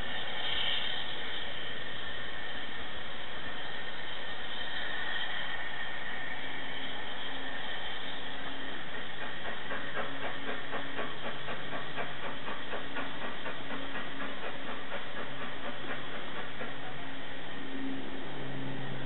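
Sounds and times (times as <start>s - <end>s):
steam hissing: 0.0s - 19.0s
steam locomotive chuffing: 0.0s - 19.0s.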